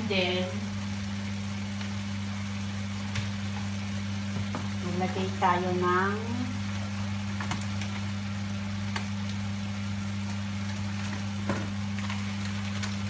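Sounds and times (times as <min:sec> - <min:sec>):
meat sizzling in a wok: 0:00.0 - 0:13.0
steady low hum: 0:00.0 - 0:13.0.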